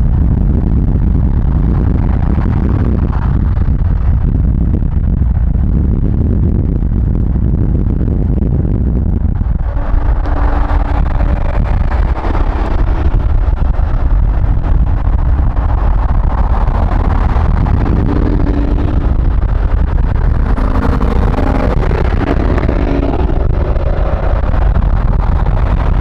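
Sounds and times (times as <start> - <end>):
car engine rumble: 0.0 - 26.0.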